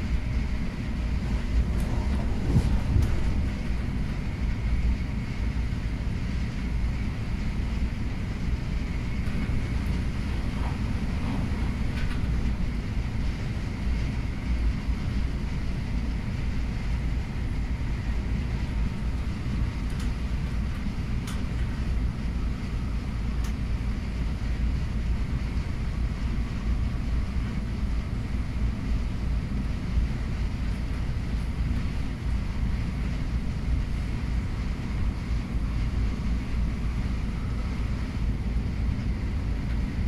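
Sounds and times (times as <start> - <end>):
train cabin rumble: 0.0 - 40.0.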